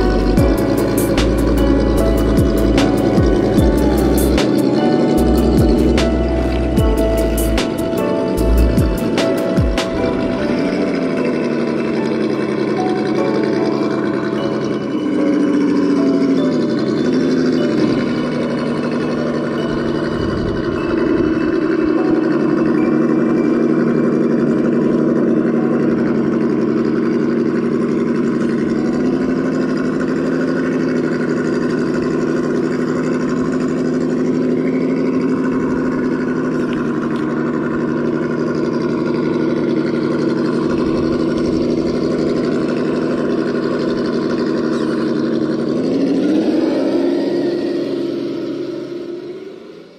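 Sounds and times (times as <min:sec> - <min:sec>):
electric motor and gearbox whining: 0:00.0 - 0:49.9.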